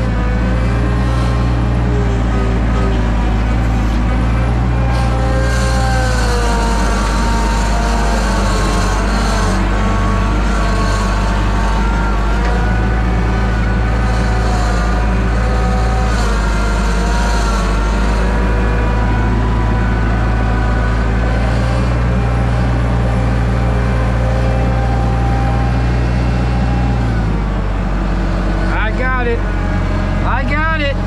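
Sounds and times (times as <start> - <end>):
loader engine running: 0.0 - 31.0.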